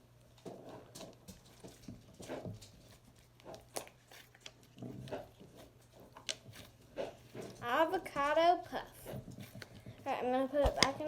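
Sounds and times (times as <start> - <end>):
slime squelching: 0.6 - 11.0.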